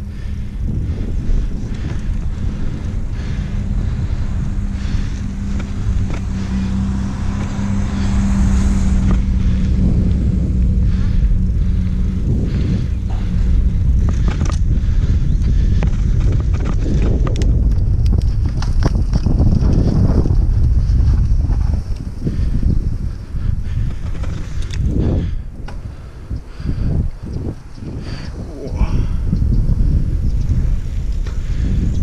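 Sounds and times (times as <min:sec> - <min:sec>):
bicycle rattling and knocking: 0:00.0 - 0:28.2, 0:29.2 - 0:32.0
bicycle tyres rolling on asphalt: 0:00.0 - 0:32.0
steady hum: 0:00.0 - 0:32.0
wind buffeting microphone: 0:00.0 - 0:32.0.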